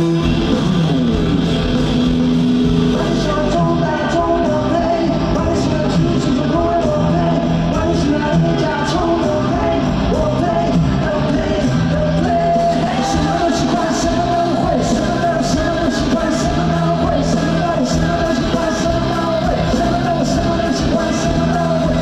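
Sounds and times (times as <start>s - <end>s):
live rock band playing: 0.0s - 22.0s
person singing: 2.7s - 22.0s.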